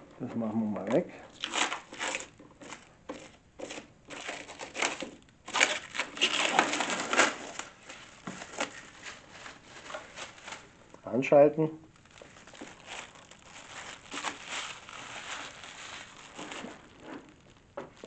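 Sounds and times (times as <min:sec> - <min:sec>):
plastic film crinkling: 0:00.7 - 0:18.0.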